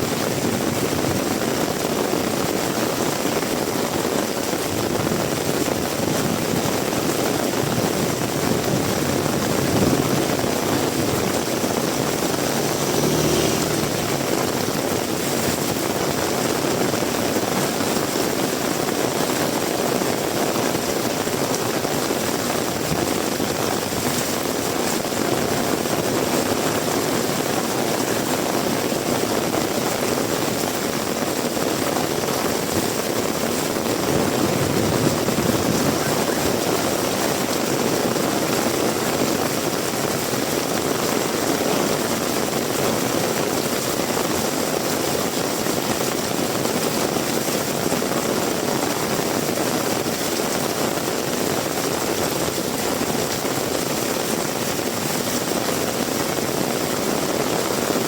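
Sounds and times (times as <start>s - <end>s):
heavy rain: 0.0s - 58.0s
strong wind: 0.0s - 58.0s.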